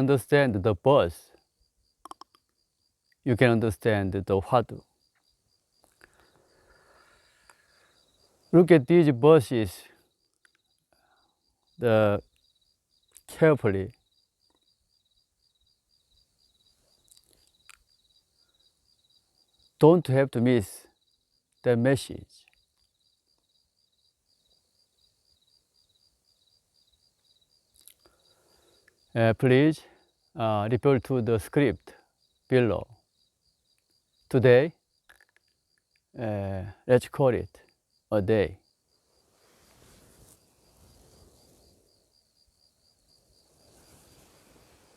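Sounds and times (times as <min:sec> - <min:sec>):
insect chirping: 0:01.4 - 0:03.4, 0:04.7 - 0:19.8, 0:20.4 - 0:36.8, 0:37.4 - 0:44.9.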